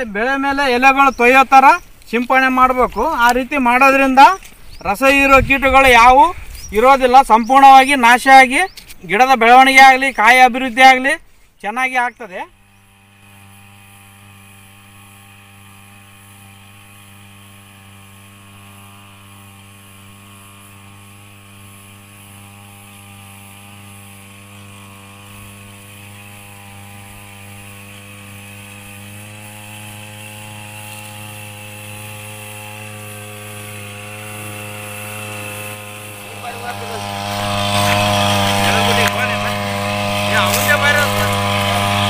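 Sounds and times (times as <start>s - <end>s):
power sprayer engine running: 0.0s - 42.0s.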